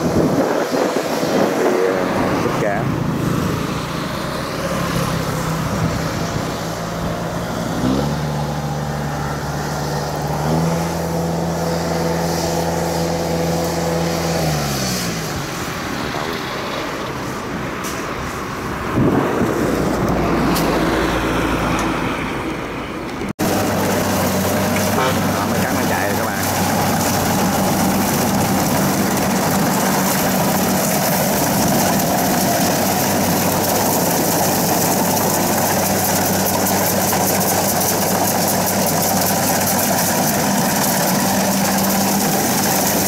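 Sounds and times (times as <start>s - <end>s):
rush of machine noise: 0.0s - 22.2s, 23.4s - 43.0s
combine harvester diesel engine: 0.0s - 43.0s.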